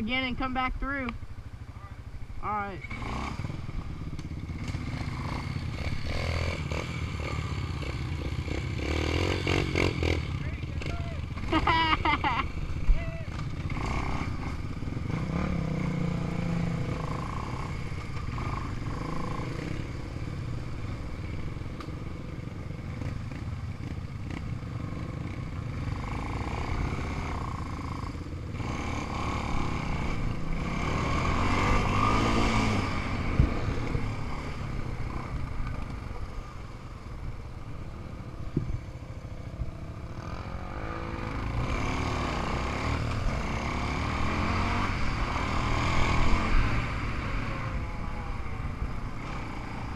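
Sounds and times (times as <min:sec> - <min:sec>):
atv and dirt bike engines: 0:00.0 - 0:49.9.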